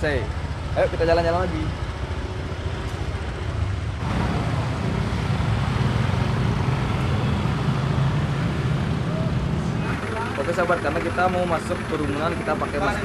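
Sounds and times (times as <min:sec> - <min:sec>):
motorbike and car engines: 0:00.0 - 0:13.0.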